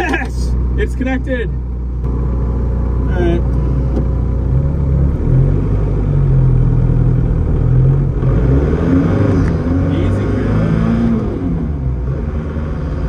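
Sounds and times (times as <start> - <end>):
diesel car engine running: 0.0 - 13.0.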